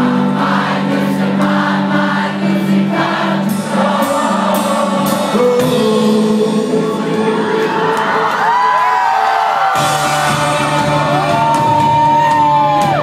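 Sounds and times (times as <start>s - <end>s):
audience singing along: 0.0s - 11.5s
loud live rock band: 0.0s - 13.0s.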